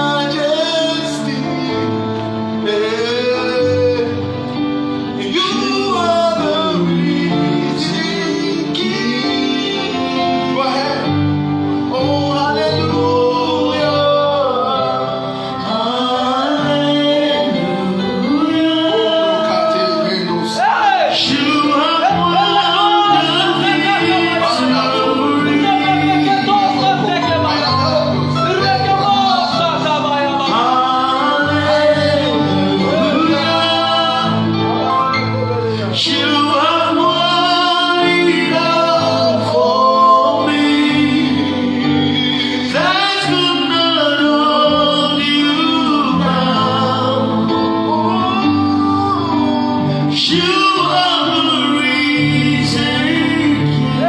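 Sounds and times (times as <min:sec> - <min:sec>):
keyboard and bass accompaniment: 0:00.0 - 0:54.0
person singing long sliding notes: 0:00.0 - 0:54.0.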